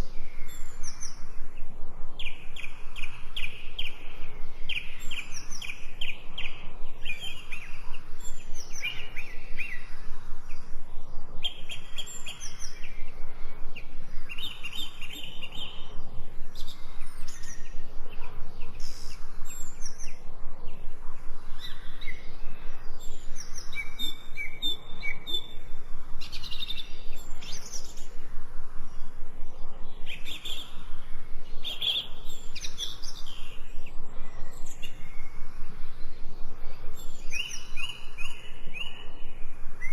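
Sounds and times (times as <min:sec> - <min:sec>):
songbirds chirping and singing: 0:00.0 - 0:39.9
steady background hiss: 0:00.0 - 0:39.9.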